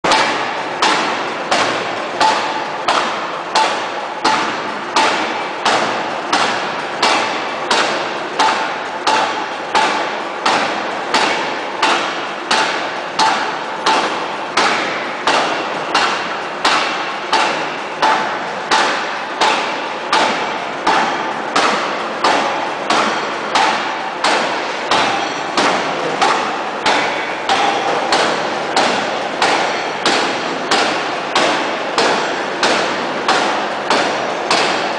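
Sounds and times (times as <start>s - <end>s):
forging hammer striking steel: 0.0s - 34.9s.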